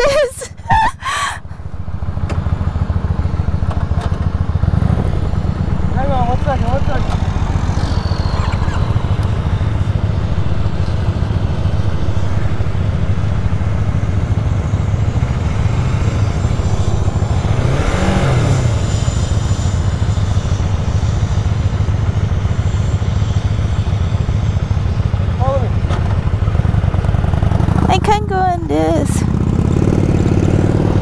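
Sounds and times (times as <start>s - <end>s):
motorcycle engine rumble: 0.0s - 31.0s.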